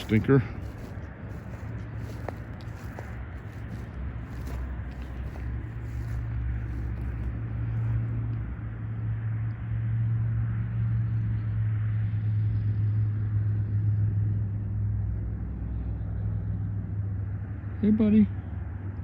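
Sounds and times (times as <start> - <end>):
engine idling with low hum: 0.0 - 19.0.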